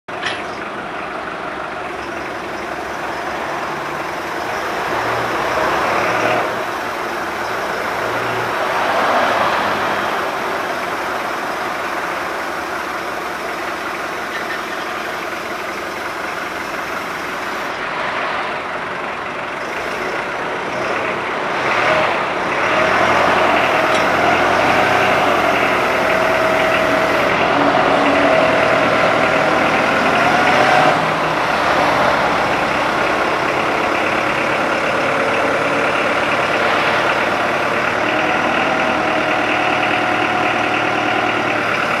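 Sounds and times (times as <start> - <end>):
forklift engine running: 0.0 - 42.0
hydraulic whine: 1.9 - 17.9, 22.6 - 42.0.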